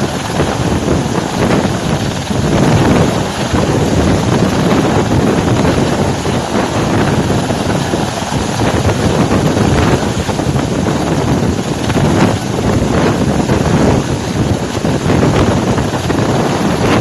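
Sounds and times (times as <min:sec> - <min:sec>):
helicopter running: 0:00.0 - 0:17.0
wind buffeting microphone: 0:00.0 - 0:17.0.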